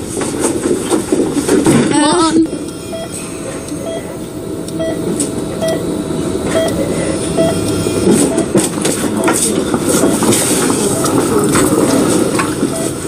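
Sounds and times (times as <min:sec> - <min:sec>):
low rushing hum of machinery: 0:01.9 - 0:13.0
heart monitor beeping: 0:02.5 - 0:13.0.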